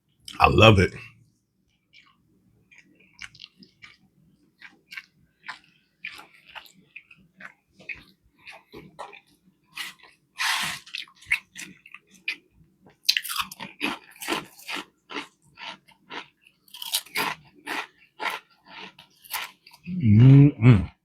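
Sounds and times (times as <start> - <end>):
chewing and crunching sandwich: 1.6 - 19.9.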